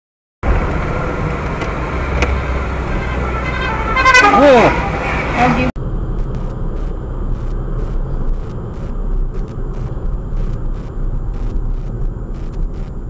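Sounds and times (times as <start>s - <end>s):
car engine and tyres rumbling: 0.4s - 13.0s.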